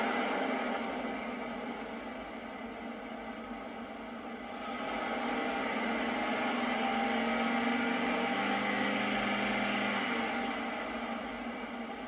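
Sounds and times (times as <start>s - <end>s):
simulated truck engine from small speaker: 0.0s - 12.0s.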